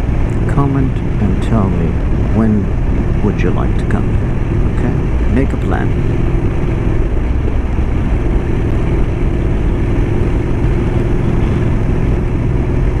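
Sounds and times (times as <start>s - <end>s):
motorcycle engine cruising: 0.0s - 13.0s
rushing wind noise: 0.0s - 13.0s.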